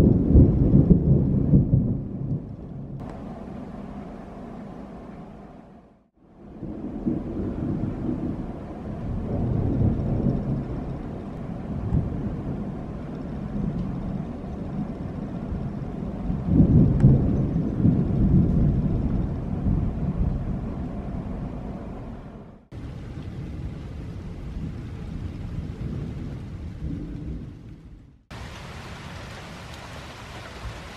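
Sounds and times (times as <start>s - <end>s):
thunder rumbling: 0.0s - 30.9s.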